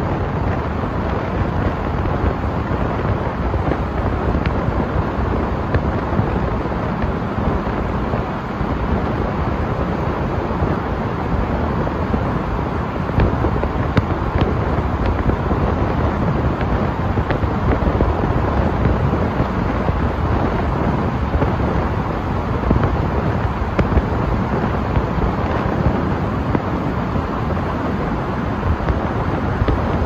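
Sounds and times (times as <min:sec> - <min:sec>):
car tyre and road noise: 0:00.0 - 0:30.0.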